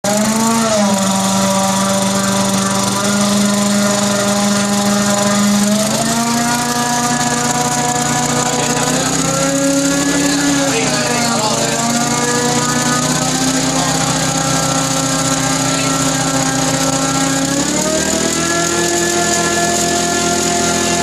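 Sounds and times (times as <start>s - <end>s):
small engine droning: 0.0s - 21.0s.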